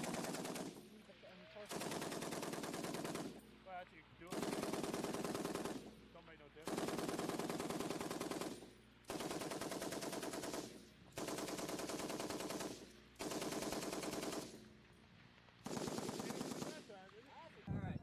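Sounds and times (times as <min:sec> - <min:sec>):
machine gun firing bursts: 0:00.0 - 0:03.6, 0:04.2 - 0:14.7, 0:15.6 - 0:17.1.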